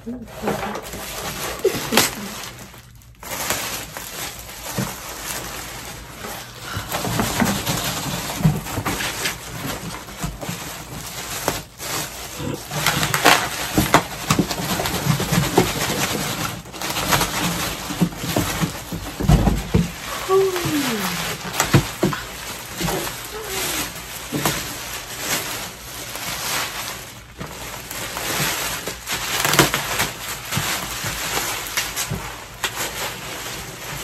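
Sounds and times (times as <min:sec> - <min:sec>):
plastic wrapping crinkling: 0:00.0 - 0:34.0.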